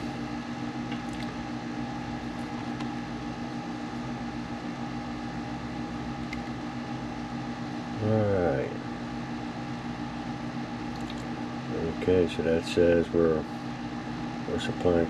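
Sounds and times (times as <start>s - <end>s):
power supply humming: 0.0s - 15.0s.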